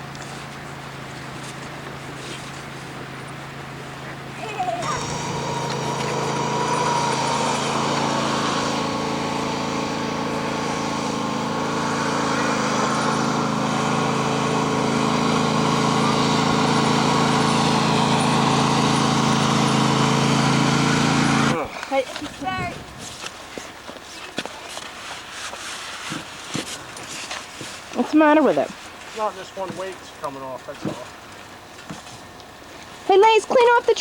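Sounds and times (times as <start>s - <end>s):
small engine droning: 0.0s - 34.0s.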